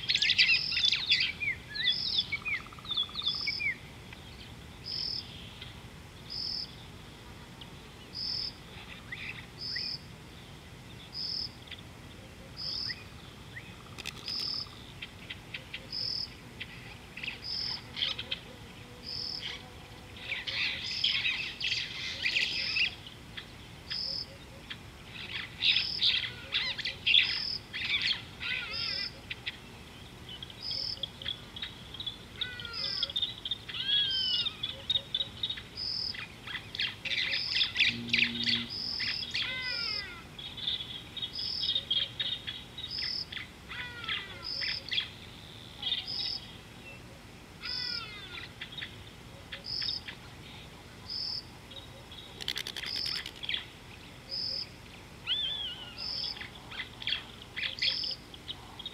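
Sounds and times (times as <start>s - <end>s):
birds chirping and calling: 0.0s - 7.0s, 7.6s - 58.9s.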